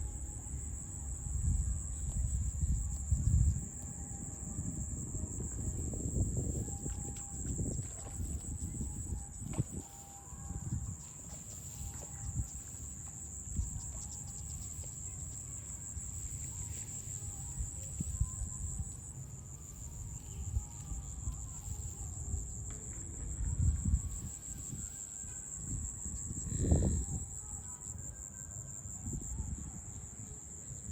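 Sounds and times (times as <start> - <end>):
insect chorus buzzing: 0.0 - 30.9.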